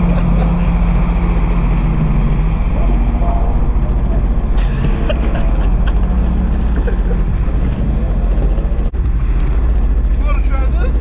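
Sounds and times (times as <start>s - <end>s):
jet ski engine running: 0.0s - 11.0s
rushing water: 0.0s - 11.0s
wind noise: 0.0s - 11.0s.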